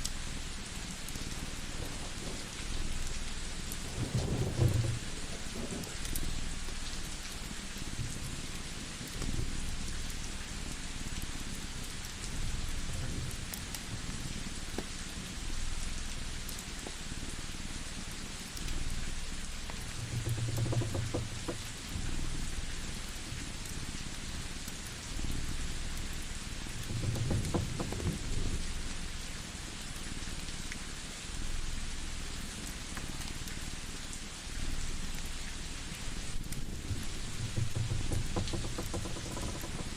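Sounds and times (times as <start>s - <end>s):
wood fire crackling: 0.0s - 31.0s, 34.7s - 39.9s
steady rain hiss: 0.0s - 39.9s.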